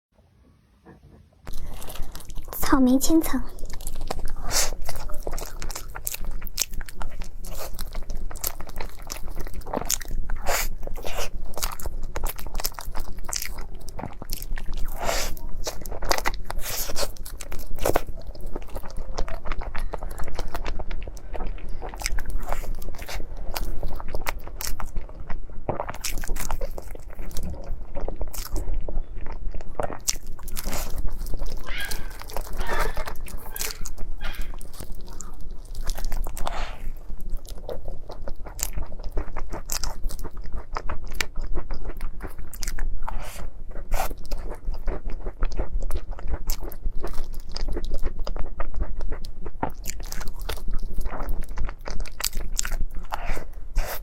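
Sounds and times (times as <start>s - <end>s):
person chewing cake: 0.8s - 54.0s.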